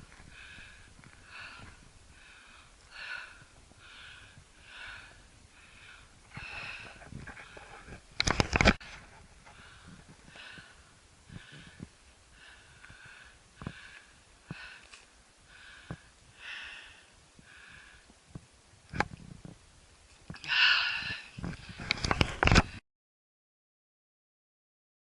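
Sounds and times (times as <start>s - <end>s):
person breathing: 0.0s - 18.2s, 20.4s - 22.8s
rustle: 0.0s - 22.8s.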